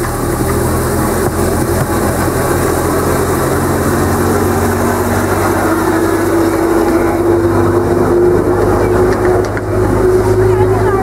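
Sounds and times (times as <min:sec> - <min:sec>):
carriages rolling on track: 0:00.0 - 0:11.0
diesel locomotive engine hum: 0:00.0 - 0:11.0.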